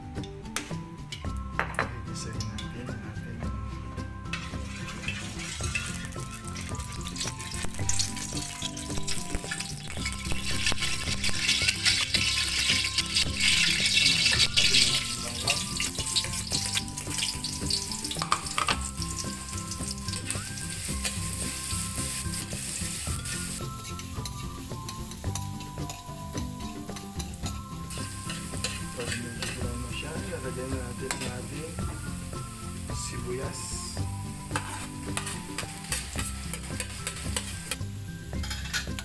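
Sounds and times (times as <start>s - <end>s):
quiet background music: 0.0s - 39.0s
onion sizzling in oil: 3.5s - 39.0s.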